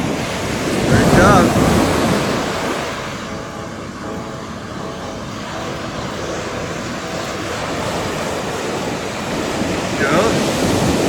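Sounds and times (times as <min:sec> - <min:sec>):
propeller plane engine droning: 0:00.0 - 0:11.0
surf: 0:00.0 - 0:11.0
wind noise: 0:00.0 - 0:11.0.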